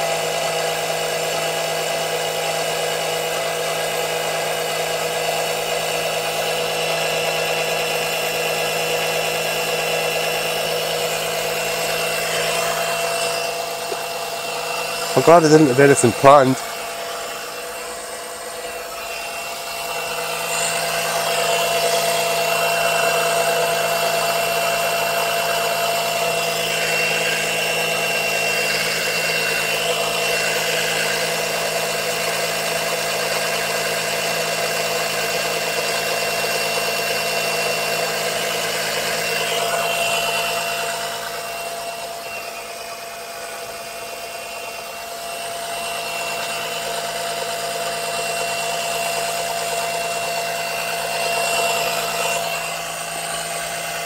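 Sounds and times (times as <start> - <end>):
pump motor whining: 0.0 - 54.0.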